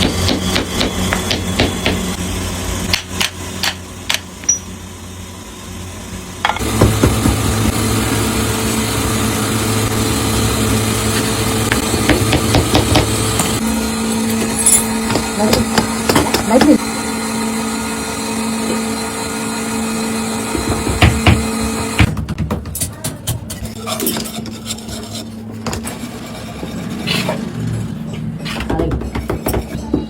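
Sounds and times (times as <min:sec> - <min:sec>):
machine hum with light clattering: 0:00.0 - 0:16.8, 0:20.5 - 0:30.0.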